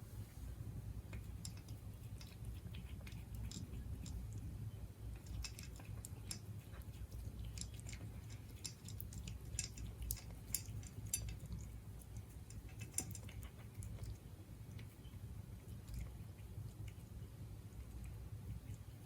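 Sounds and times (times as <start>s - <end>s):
low steady hum: 0.0s - 19.0s
cat chewing food: 0.7s - 19.0s.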